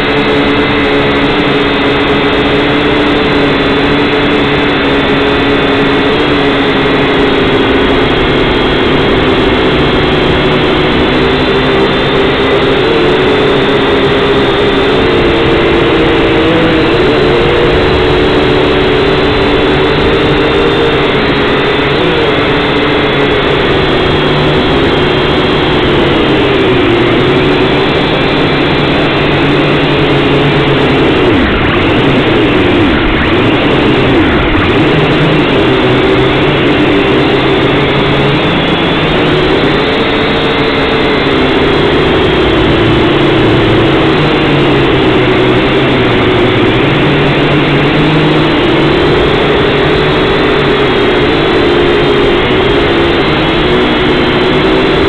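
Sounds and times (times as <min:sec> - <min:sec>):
quadcopter motors buzzing whine: 0:00.0 - 0:55.0.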